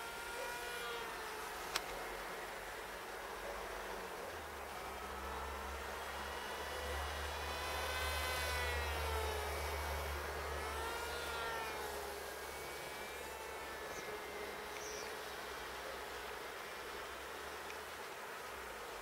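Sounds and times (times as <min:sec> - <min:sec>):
electric model plane motor whining: 0:00.0 - 0:19.0.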